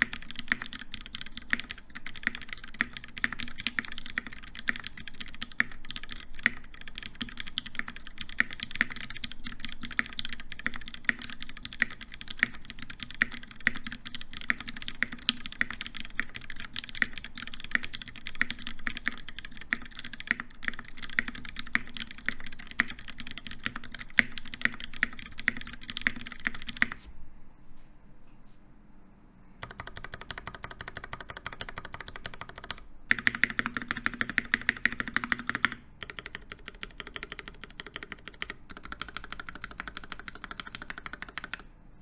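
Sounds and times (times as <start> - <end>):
fast mechanical keyboard typing: 0.0 - 27.0, 29.6 - 41.7.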